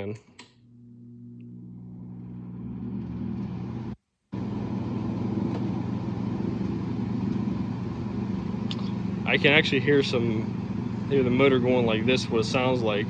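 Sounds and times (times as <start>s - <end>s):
air conditioner fan motor hum: 0.0s - 13.0s.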